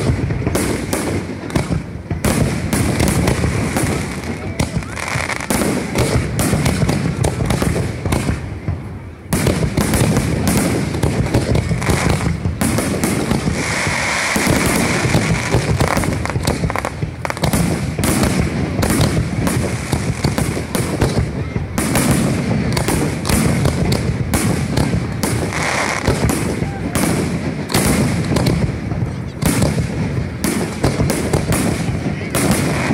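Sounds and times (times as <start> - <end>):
fireworks bursting and crackling: 0.0 - 32.9.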